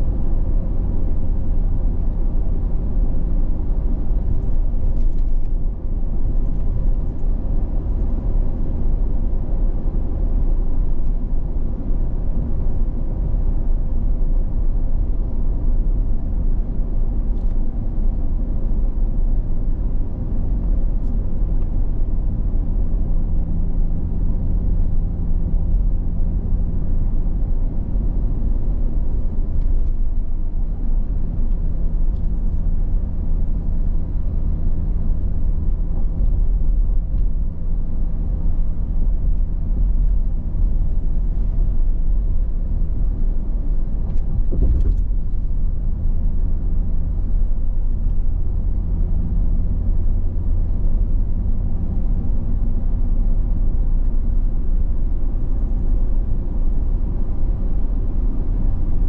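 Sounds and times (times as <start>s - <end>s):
car driving interior rumble: 0.0s - 59.0s.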